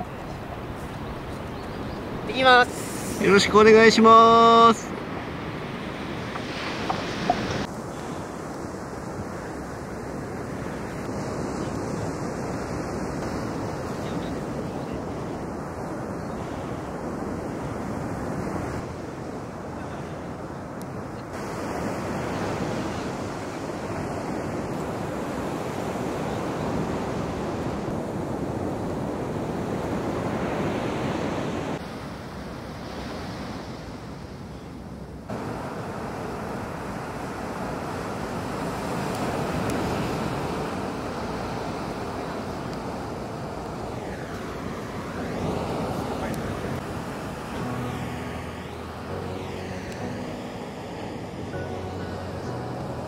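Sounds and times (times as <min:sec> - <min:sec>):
waves breaking on a beach: 0:00.0 - 0:53.0.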